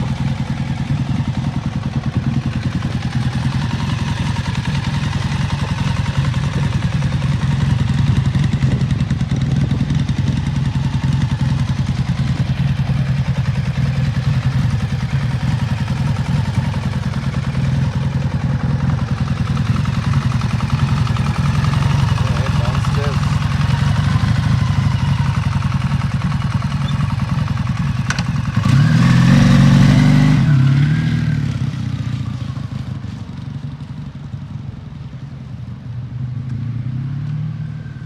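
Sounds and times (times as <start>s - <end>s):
motorcycle engine droning: 0.0s - 38.0s.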